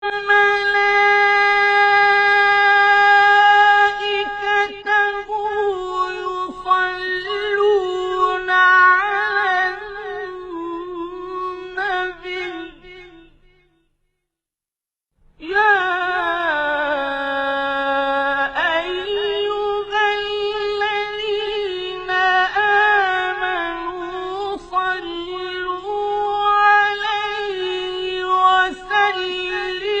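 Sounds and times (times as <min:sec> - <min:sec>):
person singing long notes: 0:00.0 - 0:13.4, 0:15.4 - 0:30.0.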